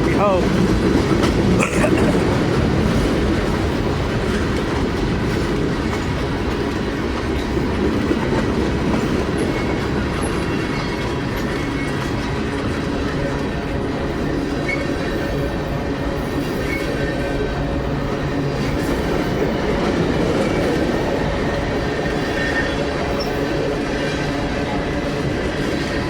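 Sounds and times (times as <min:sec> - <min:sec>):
freight train rolling past: 0:00.0 - 0:26.0
wheels clacking over rail joints: 0:00.0 - 0:26.0.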